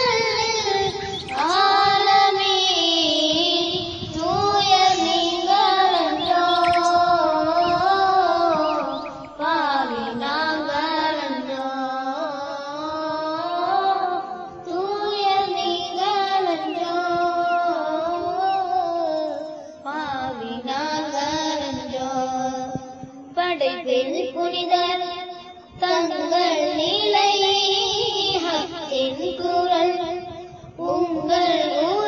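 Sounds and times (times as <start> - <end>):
girl singing: 0.0 - 32.0.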